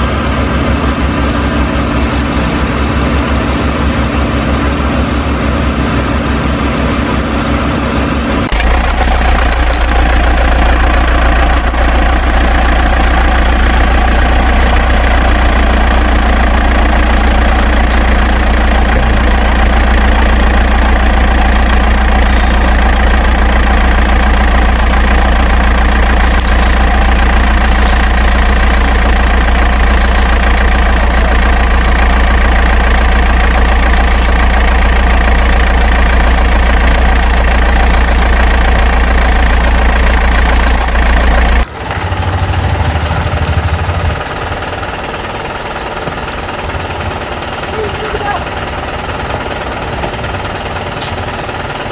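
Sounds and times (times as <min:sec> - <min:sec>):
tractor engine idling: 0:00.0 - 0:51.9.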